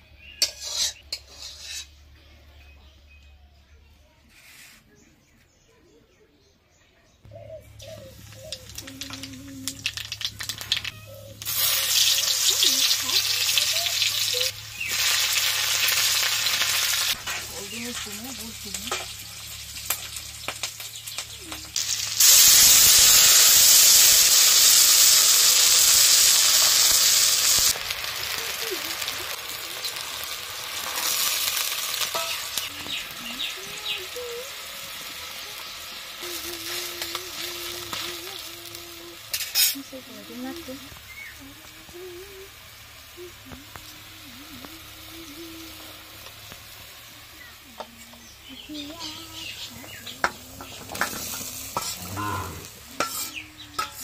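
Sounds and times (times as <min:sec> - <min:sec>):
food sizzling in hot oil: 0:00.4 - 0:01.9, 0:07.8 - 0:54.0
loud burst of sizzling: 0:08.2 - 0:54.0.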